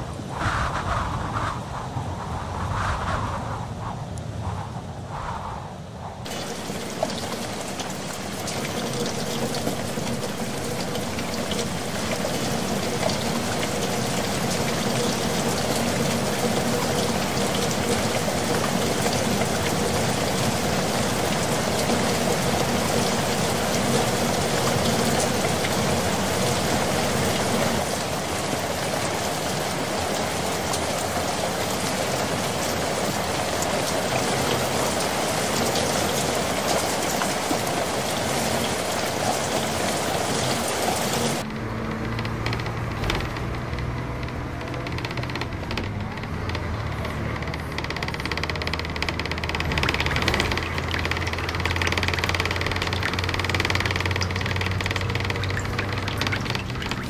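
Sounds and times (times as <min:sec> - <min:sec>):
heavy rain on pavement: 0:06.2 - 0:57.0.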